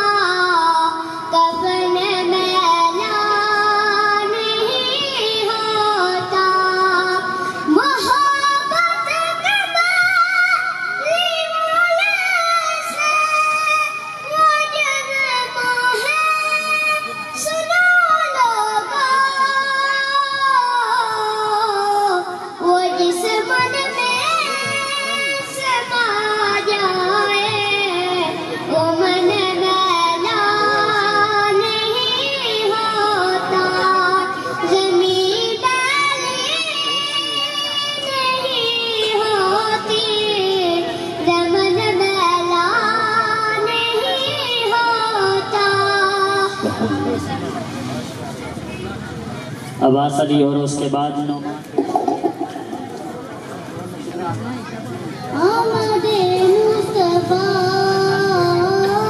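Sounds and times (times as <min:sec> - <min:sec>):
boy singing into a microphone: 0:00.0 - 0:47.8, 0:53.8 - 0:59.0.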